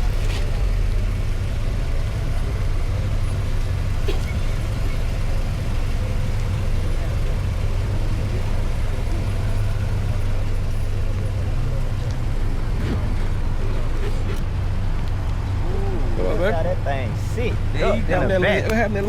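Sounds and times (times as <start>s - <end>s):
car engine idling: 0.0s - 19.0s
faint voices: 0.0s - 19.0s.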